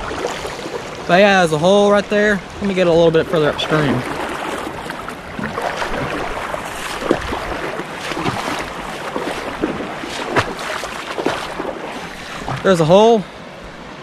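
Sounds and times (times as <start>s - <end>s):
creek water rushing and splashing: 0.0s - 14.0s.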